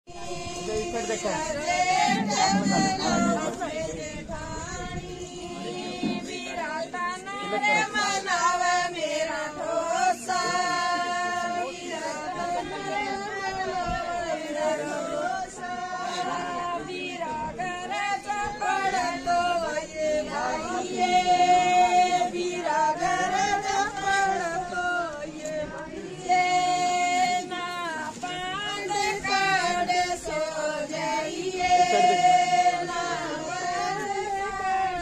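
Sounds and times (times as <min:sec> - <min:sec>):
women singing in chorus: 0:00.1 - 0:35.0.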